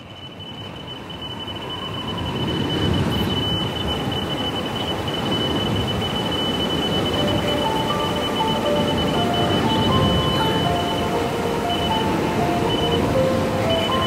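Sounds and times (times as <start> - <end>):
steady high tone: 0.0 - 14.0
electronic music wash: 2.3 - 14.0.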